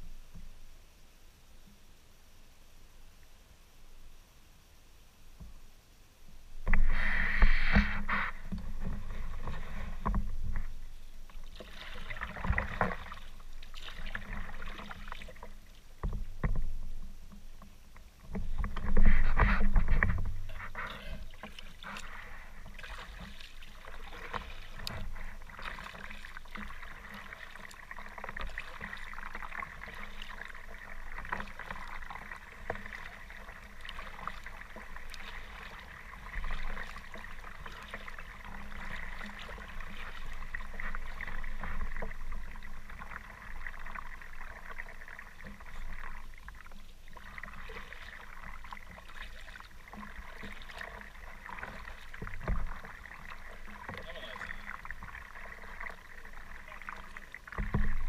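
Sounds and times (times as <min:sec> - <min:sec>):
water splashing around a kayak: 0:05.2 - 0:58.0
water lapping: 0:06.6 - 0:58.0.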